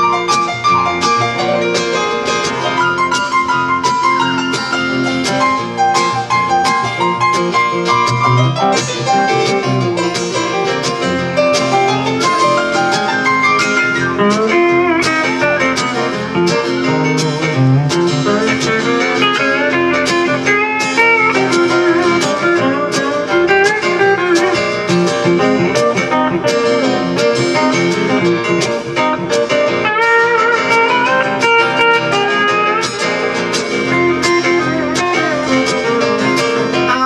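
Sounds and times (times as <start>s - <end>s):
live band backing: 0.0s - 37.0s
pedal steel guitar: 0.0s - 37.0s.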